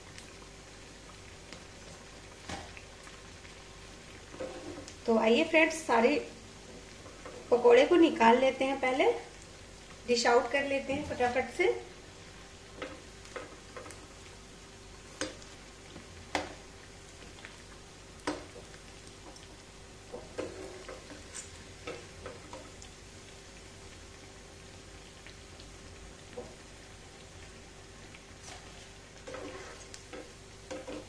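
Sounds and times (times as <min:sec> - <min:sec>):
food deep-frying in oil: 0:00.0 - 0:31.0.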